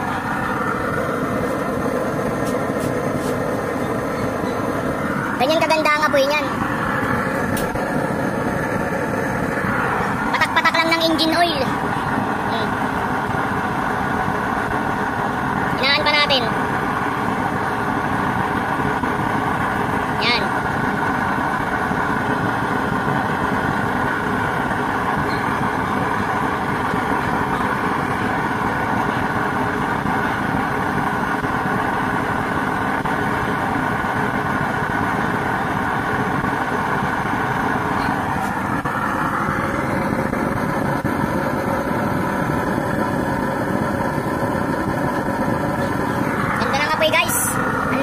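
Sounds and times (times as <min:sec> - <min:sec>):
blower fan whirring: 0:00.0 - 0:48.0
burner flame rushing: 0:00.0 - 0:48.0.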